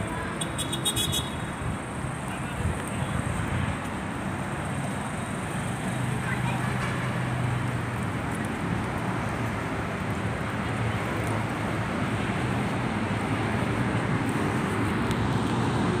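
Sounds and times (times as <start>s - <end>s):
steady road traffic: 0.0s - 16.0s.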